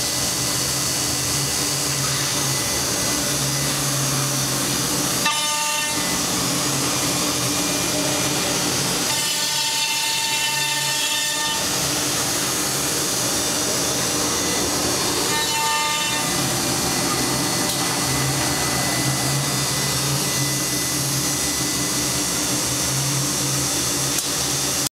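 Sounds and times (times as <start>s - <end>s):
high machine whine: 0.0s - 24.9s
woodworking machine running: 0.0s - 24.9s.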